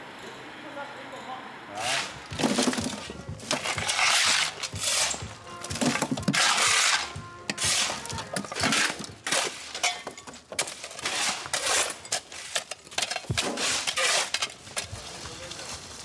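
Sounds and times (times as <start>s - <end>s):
shovels scraping into rubble: 1.7s - 16.0s
rubble clattering and clinking: 2.1s - 15.0s.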